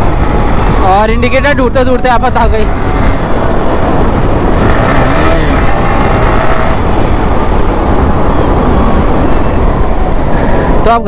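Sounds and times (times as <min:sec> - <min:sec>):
motorcycle engine running: 0:00.0 - 0:10.8
wind buffeting microphone: 0:00.0 - 0:11.0.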